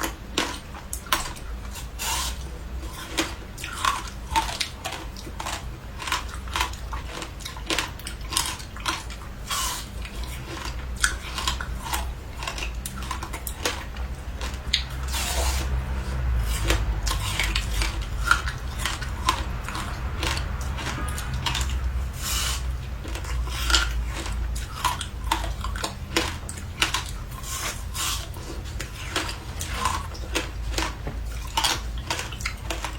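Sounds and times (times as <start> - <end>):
ice being crunched and chewed: 0.0 - 32.9.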